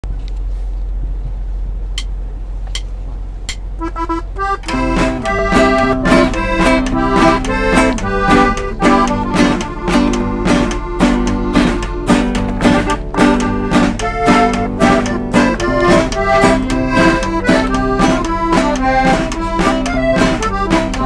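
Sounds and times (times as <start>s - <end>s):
steady low hum: 0.0s - 21.0s
acoustic guitar: 3.5s - 21.0s
button accordion: 3.6s - 21.0s.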